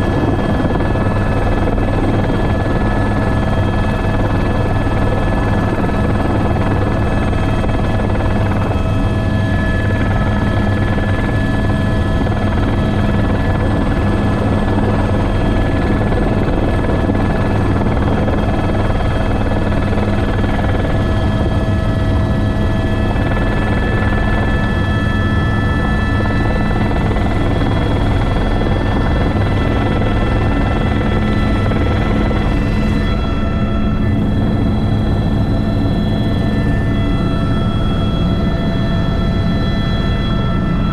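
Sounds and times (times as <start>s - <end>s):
helicopter rotor beat: 0.0s - 40.9s
turbine whine: 0.0s - 40.9s.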